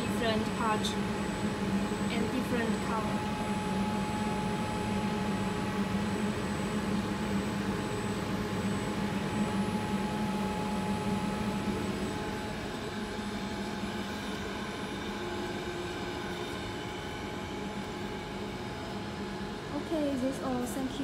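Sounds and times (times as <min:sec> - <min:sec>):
machine drone with whines: 0:00.0 - 0:21.0.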